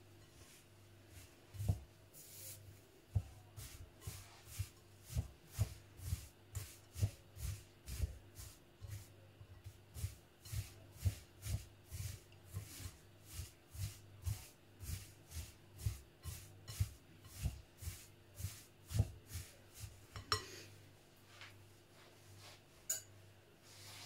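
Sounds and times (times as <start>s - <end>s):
spatula stirring in glass bowl: 0.2s - 20.6s.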